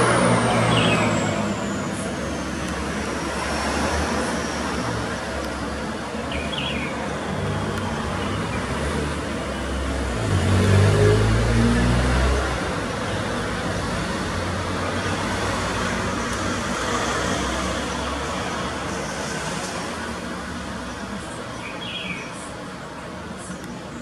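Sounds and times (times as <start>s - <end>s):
vehicle engine rumbling: 0.0s - 21.6s
road traffic noise: 0.0s - 24.0s.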